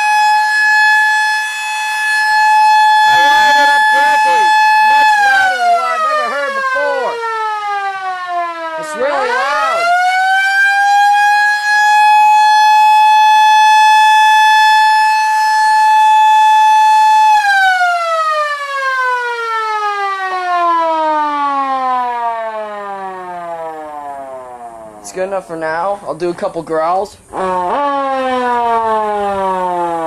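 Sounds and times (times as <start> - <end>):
electromechanical siren wailing: 0.0 - 25.1, 27.3 - 30.0.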